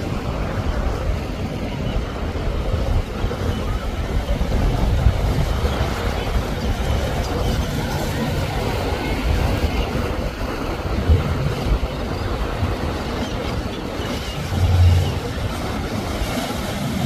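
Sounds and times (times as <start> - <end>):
boat engine rumble: 0.0 - 17.0
rush of spray and waves: 0.0 - 17.0.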